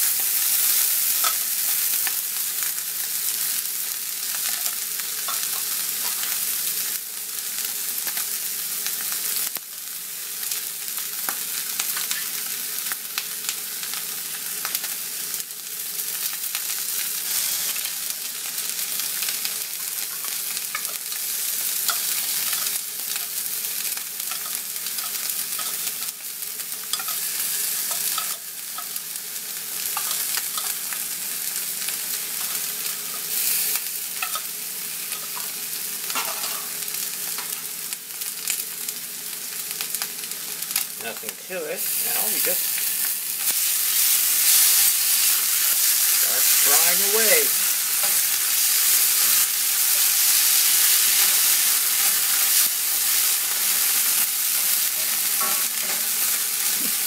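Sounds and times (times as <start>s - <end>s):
fish sizzling in oil: 0.0s - 57.0s.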